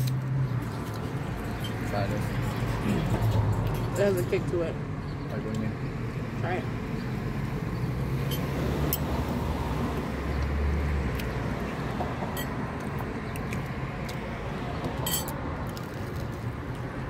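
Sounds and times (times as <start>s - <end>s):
car passing with low rumble: 0.0s - 17.0s.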